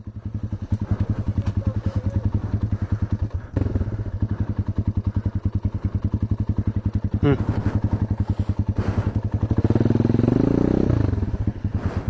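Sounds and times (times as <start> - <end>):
dirt bike engine putting: 0.0 - 12.0.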